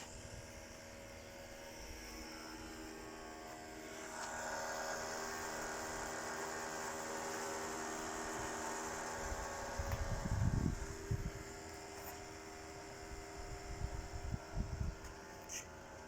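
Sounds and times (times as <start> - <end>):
welding machine humming: 0.0 - 16.0.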